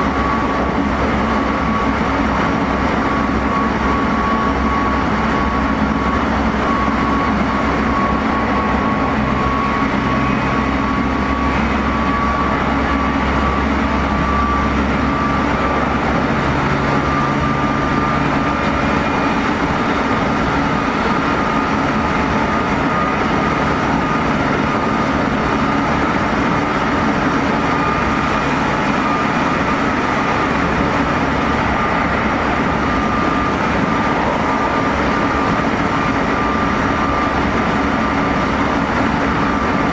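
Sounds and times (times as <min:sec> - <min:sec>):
traction motor whine: 0:00.0 - 0:39.9
train wheels rumbling on rail: 0:00.0 - 0:39.9.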